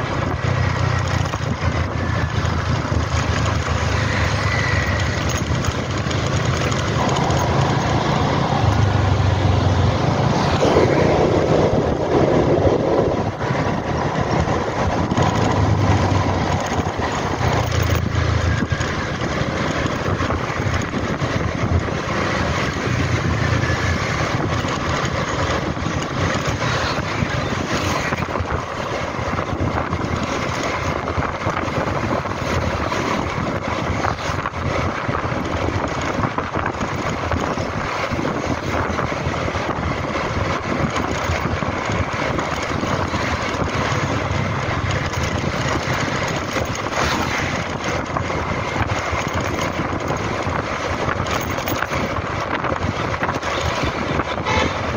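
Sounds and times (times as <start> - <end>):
motor scooter engine running: 0.0 - 54.9
wind noise on microphone: 0.0 - 54.9.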